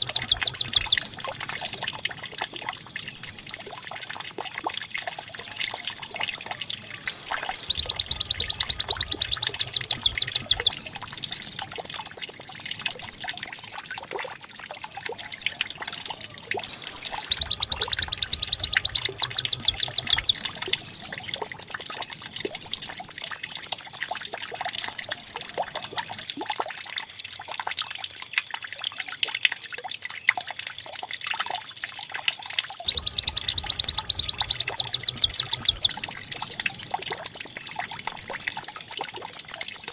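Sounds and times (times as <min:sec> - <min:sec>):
bird song with trills: 0:00.0 - 0:25.9, 0:32.9 - 0:39.9.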